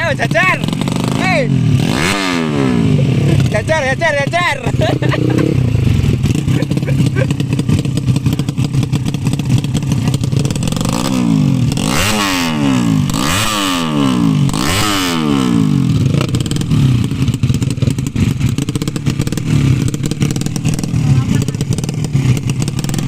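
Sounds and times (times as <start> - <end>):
motorcycle engine revving: 0.0 - 23.0
motorcycle engines running: 0.0 - 23.0.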